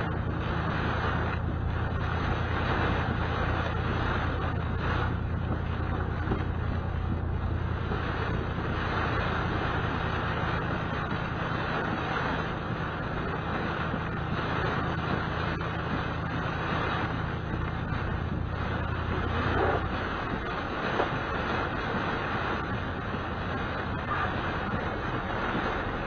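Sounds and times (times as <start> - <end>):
engine and tyres rumbling: 0.0 - 26.0
road hiss: 0.0 - 26.0.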